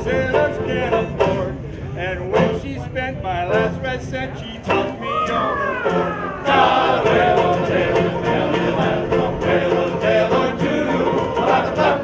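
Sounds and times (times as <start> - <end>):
voices singing in chorus: 0.0 - 12.0.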